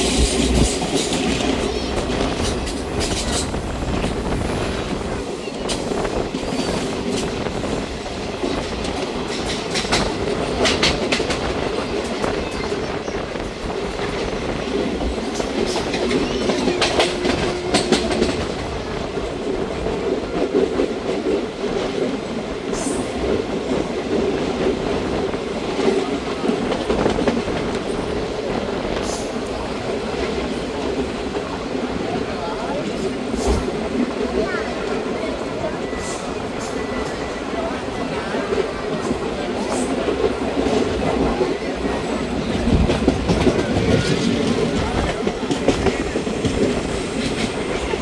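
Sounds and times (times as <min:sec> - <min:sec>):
wheels clicking over rail joints: 0:00.0 - 0:04.2, 0:05.3 - 0:31.5, 0:38.2 - 0:48.0
train rolling rumble: 0:00.0 - 0:48.0.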